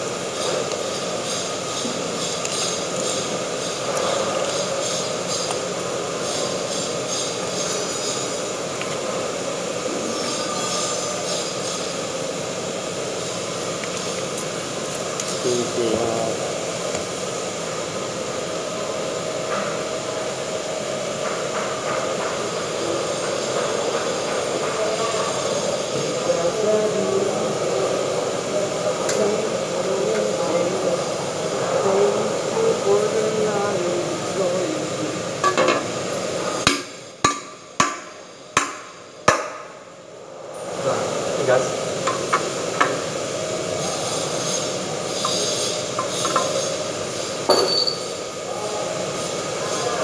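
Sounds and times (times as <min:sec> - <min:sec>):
machine-like background rush: 0:00.0 - 0:50.0.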